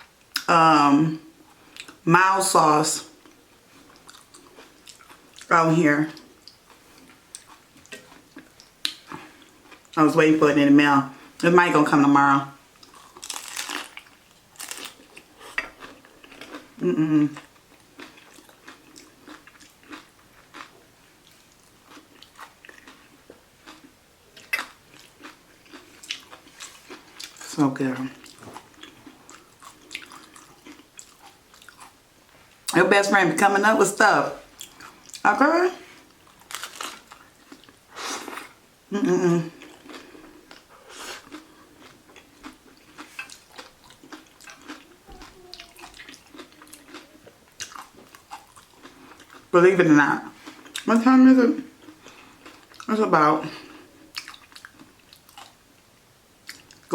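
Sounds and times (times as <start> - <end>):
chewing and crunching taco: 3.0 - 10.0, 12.5 - 32.8, 34.4 - 38.6, 39.4 - 49.6, 50.2 - 51.0, 51.6 - 55.8, 56.4 - 56.9.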